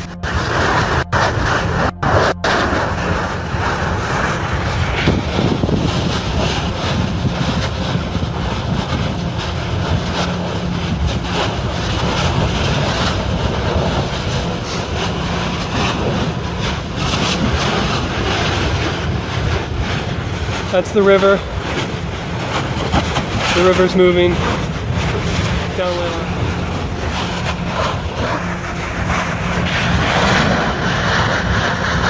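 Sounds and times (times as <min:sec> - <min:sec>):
lava eruption deep roar: 0:00.0 - 0:32.0.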